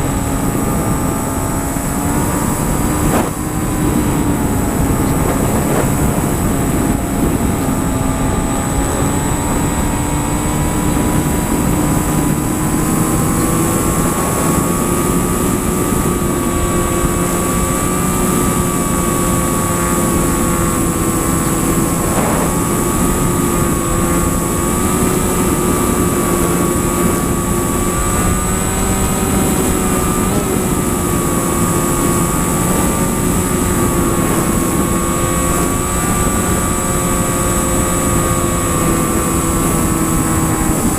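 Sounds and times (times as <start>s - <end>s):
propeller aircraft engine droning: 0.0s - 40.9s.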